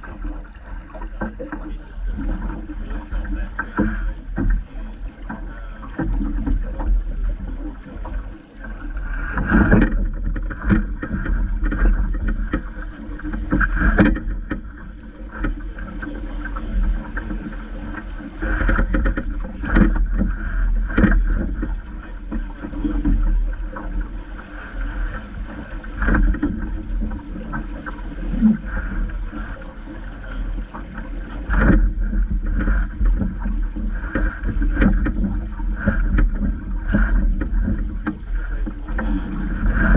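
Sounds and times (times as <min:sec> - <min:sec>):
water splashing against hull: 0:00.0 - 0:39.9
wind rumble on microphone: 0:00.0 - 0:39.9.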